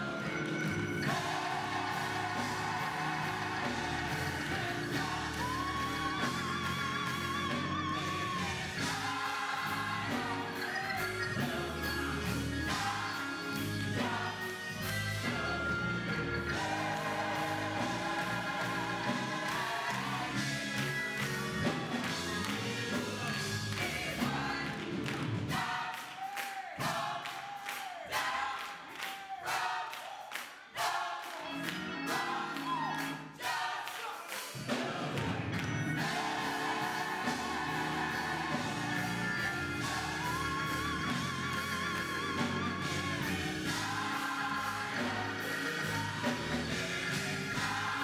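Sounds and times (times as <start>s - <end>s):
live band playing: 0.0s - 25.8s, 34.3s - 48.0s
gospel choir singing: 0.0s - 48.0s.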